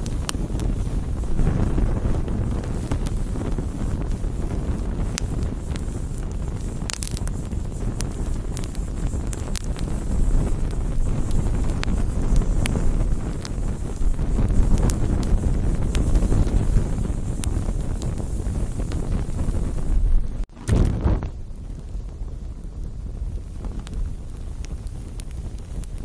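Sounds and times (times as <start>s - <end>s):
campfire flames rushing: 0.0s - 26.0s
fire crackling and popping: 0.0s - 26.0s.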